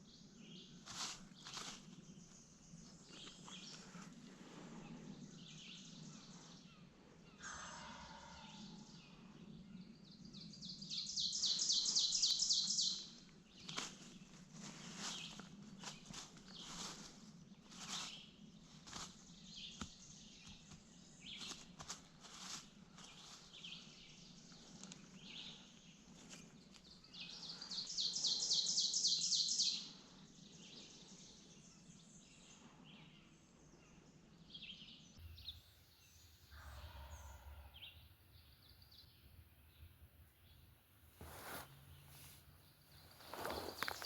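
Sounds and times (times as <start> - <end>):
songbirds chirping and singing: 0.0 - 21.6, 22.8 - 40.6, 41.3 - 44.0.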